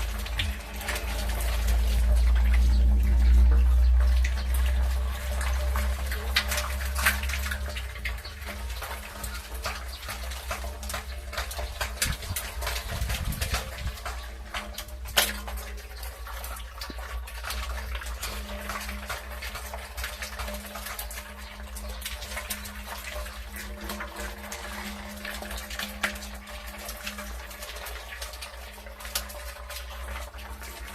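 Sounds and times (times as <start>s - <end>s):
water splashing and dripping: 0.0s - 30.9s.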